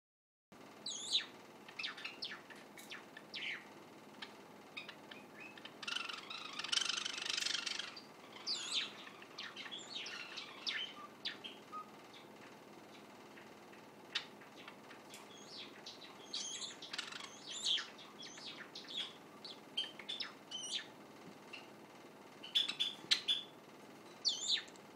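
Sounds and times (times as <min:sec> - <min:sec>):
sparrow chirping song: 0:00.8 - 0:21.8, 0:22.4 - 0:24.7.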